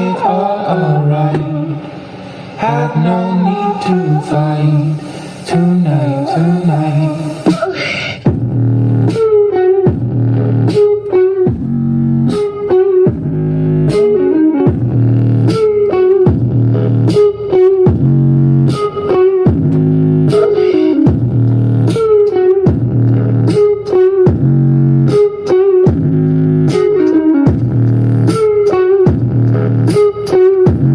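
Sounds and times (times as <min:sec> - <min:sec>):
rock music on car stereo: 0:00.0 - 0:30.9.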